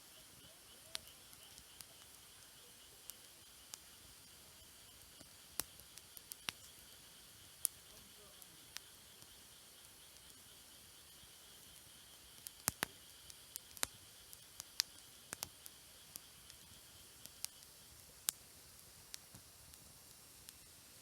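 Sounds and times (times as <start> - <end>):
campfire wood crackling: 0.0 - 21.0.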